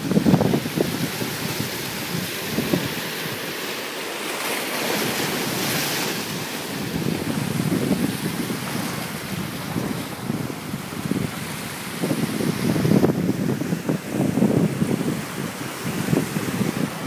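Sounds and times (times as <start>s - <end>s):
wind rumbling on microphone: 0.0s - 3.6s, 4.9s - 17.0s
ocean surf washing over rocks: 0.0s - 17.0s.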